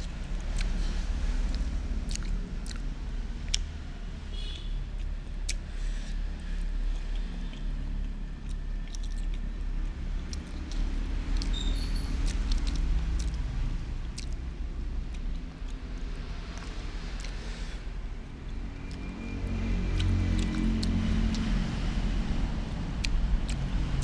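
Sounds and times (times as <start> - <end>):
chewing and mouth noises: 0.0 - 24.0
steady low rumble: 0.0 - 24.0.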